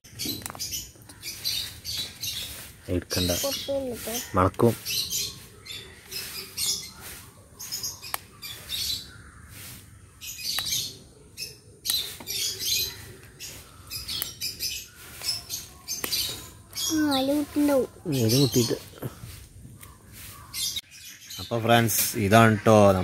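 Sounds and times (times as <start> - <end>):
lovebirds chirping and squeaking: 0.1 - 23.0.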